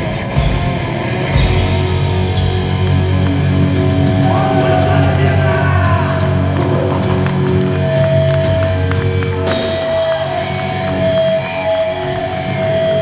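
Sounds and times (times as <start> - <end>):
distorted electric guitars: 0.0 - 13.0
drums: 0.0 - 13.0.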